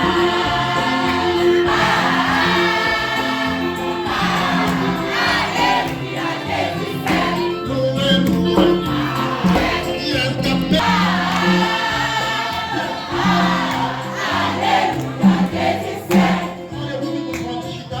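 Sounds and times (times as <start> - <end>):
choir singing a hymn: 0.0 - 8.1, 8.8 - 17.1
instrumental accompaniment: 0.0 - 18.0.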